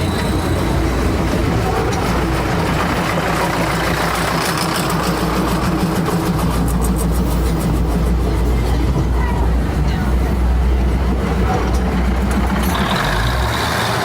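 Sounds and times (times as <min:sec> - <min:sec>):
diesel train engine humming: 0:00.0 - 0:14.0.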